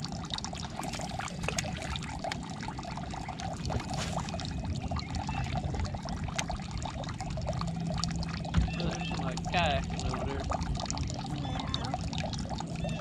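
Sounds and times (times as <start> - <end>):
water sloshing against hull: 0.0 - 13.0.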